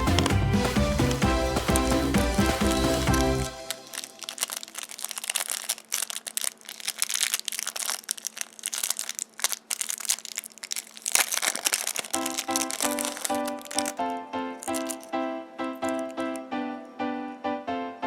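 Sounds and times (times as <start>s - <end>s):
foil wrapper crinkling: 0.0s - 16.5s.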